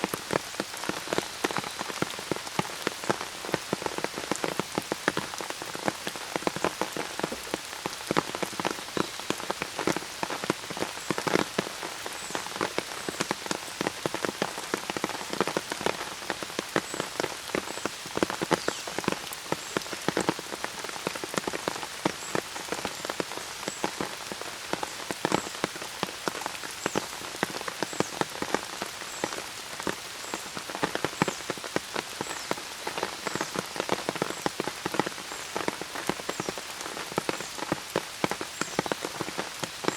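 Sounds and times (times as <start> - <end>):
close drips pattering: 0.0 - 39.9
rain hissing: 0.0 - 39.9.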